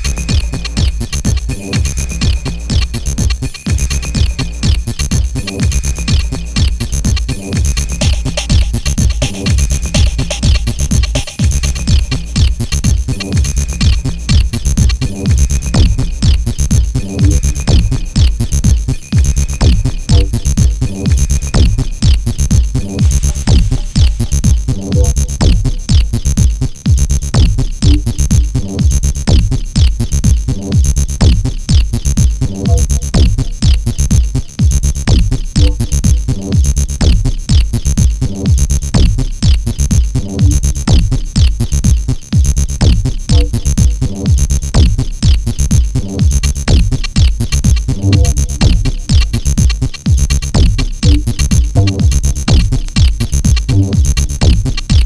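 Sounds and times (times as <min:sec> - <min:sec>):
electronic dance music: 0:00.0 - 0:33.9, 0:34.6 - 0:55.0.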